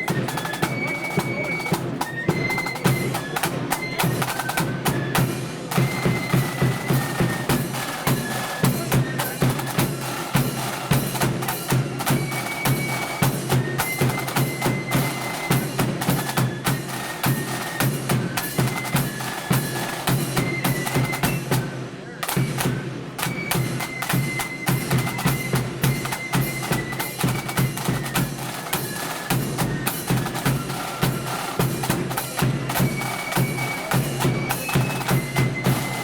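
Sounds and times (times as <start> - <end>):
high flute melody: 0.0 - 36.0
snare drums: 0.0 - 36.0.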